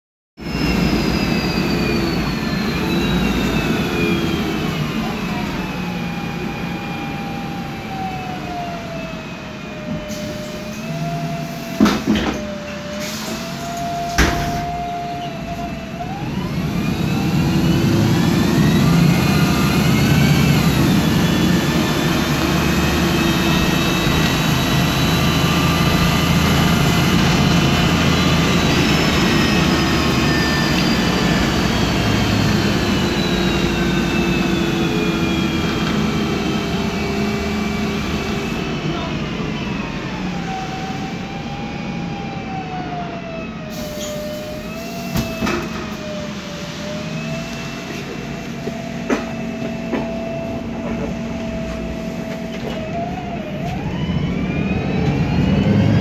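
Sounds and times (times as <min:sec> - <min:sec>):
bus engine running low: 0:00.4 - 0:56.0
bus transmission whining: 0:00.4 - 0:56.0.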